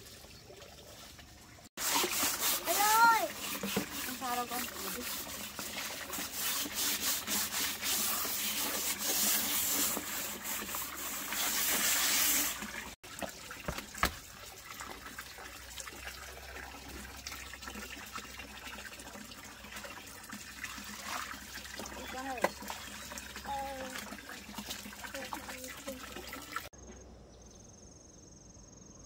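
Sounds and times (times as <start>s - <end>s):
running water splashing: 0.0s - 26.7s.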